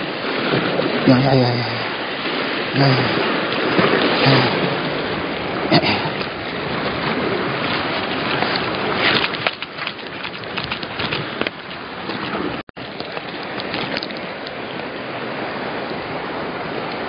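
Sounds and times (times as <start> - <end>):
sea washing against rocks: 0.0 - 17.0
wind buffeting microphone: 0.0 - 17.0.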